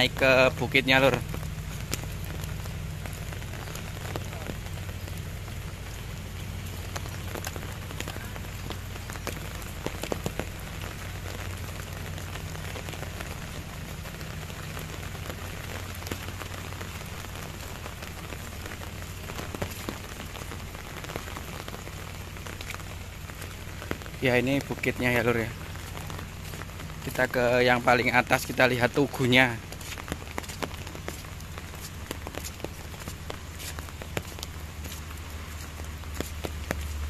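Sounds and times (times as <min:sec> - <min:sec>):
light rain on paving and foliage: 0:00.0 - 0:37.0
low steady hum: 0:00.0 - 0:37.0.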